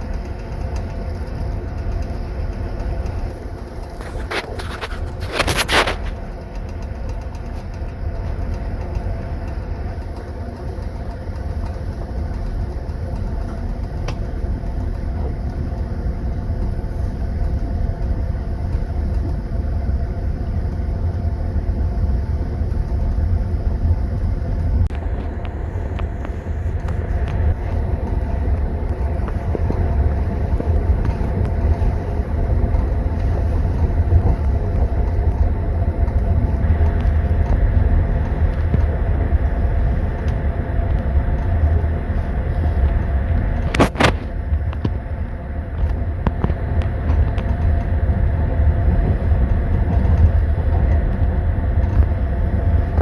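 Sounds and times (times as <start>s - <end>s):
train wheels rumbling: 0.0s - 53.0s.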